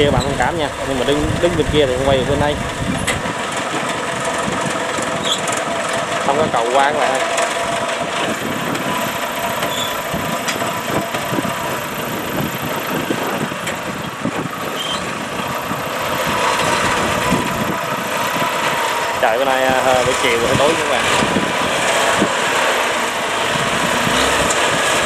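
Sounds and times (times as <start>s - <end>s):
tracked machine engine running: 0.0s - 25.0s.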